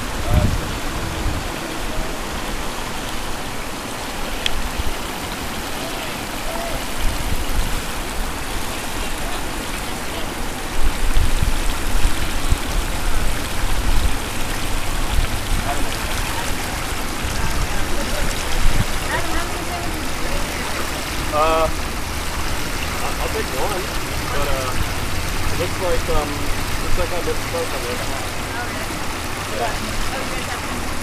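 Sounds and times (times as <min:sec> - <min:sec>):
water rushing over rocks: 0:00.0 - 0:31.0.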